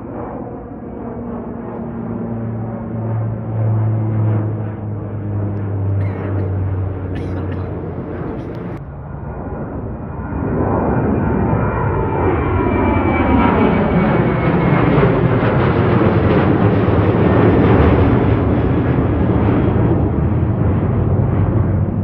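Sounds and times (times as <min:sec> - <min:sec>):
jet airliner roar overhead: 0:00.0 - 0:22.0
jet engine whine: 0:00.0 - 0:22.0.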